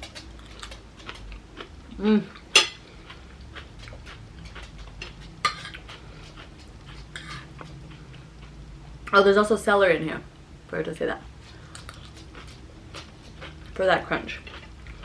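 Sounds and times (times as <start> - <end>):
crunchy food chewing: 0.0 - 8.6, 11.4 - 15.0.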